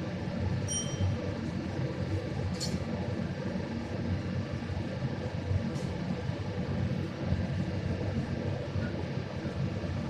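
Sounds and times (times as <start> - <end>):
exhaust hood fan and burners rumbling: 0.0 - 10.0.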